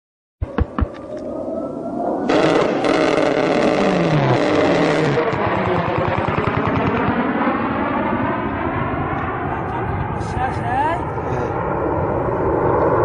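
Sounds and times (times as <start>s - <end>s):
jet engines roaring: 0.4s - 13.0s.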